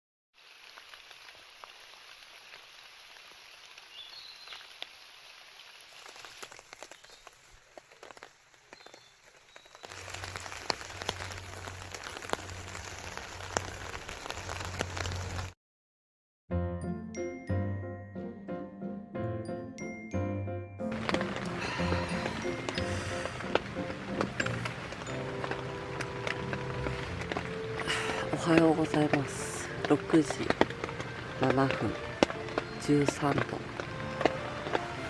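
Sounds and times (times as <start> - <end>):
low drumming of rain: 0.4 - 15.6, 20.9 - 35.0
raindrops pattering: 0.4 - 15.6, 20.8 - 35.0.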